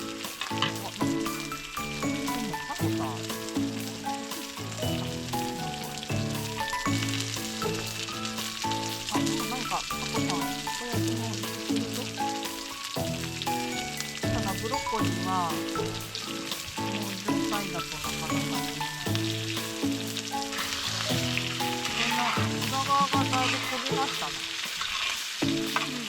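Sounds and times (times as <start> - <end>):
background music of held notes: 0.0 - 26.0
food sizzling in a pan: 0.0 - 26.0.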